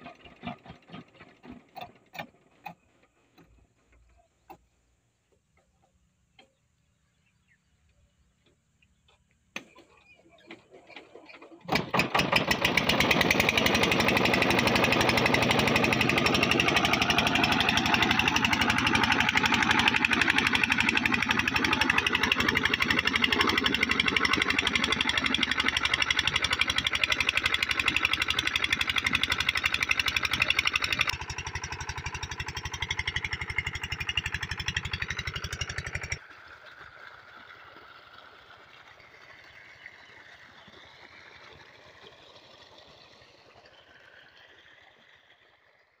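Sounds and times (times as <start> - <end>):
diesel pump engine running: 0.0 - 7.6, 8.2 - 46.0.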